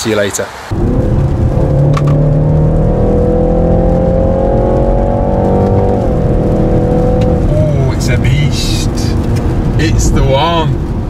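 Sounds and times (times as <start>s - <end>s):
car engine accelerating: 0.7s - 11.0s.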